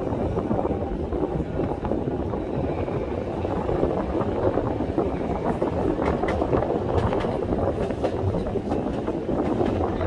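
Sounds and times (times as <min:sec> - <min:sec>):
tram running noise: 0:00.0 - 0:10.0
wind buffeting microphone: 0:00.0 - 0:10.0.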